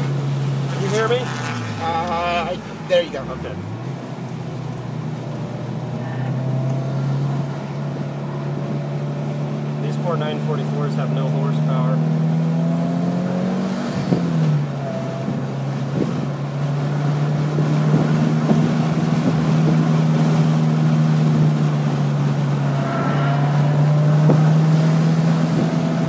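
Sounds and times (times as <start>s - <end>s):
car engine droning under load: 0.0s - 26.0s.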